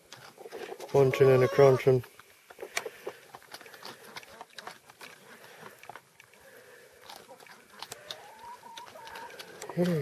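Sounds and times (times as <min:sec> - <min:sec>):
pig crunching feed pellets: 0:00.0 - 0:10.0.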